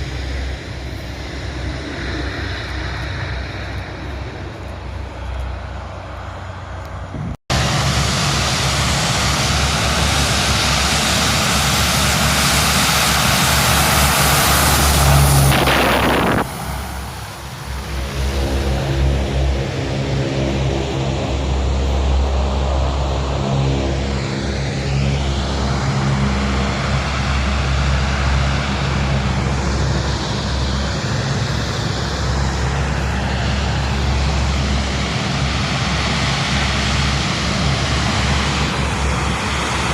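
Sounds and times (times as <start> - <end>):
aircraft engine drone: 0.0 - 39.9
aircraft flyby rushing: 0.0 - 39.9.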